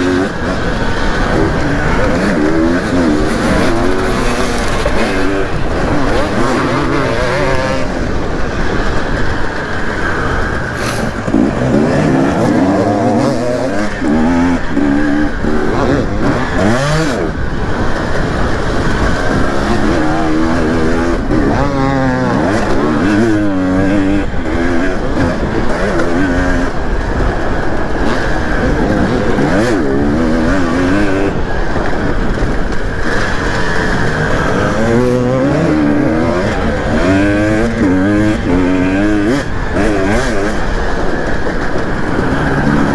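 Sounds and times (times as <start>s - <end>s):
dirt bike engine revving: 0.0s - 42.9s
other motorbikes running: 0.0s - 42.9s.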